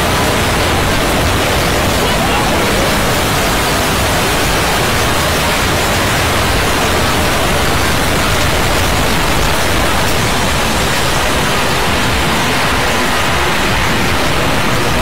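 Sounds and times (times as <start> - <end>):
loud static noise: 0.0 - 15.0.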